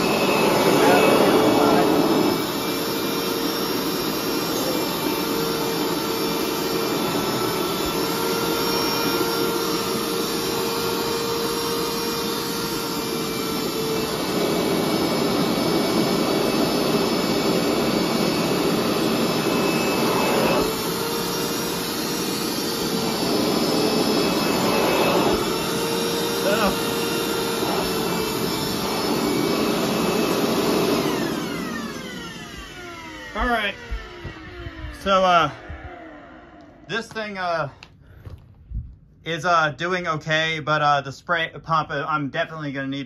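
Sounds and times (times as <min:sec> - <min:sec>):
carpet cleaner suction motor: 0:00.0 - 0:36.9
motor whine: 0:00.0 - 0:36.9.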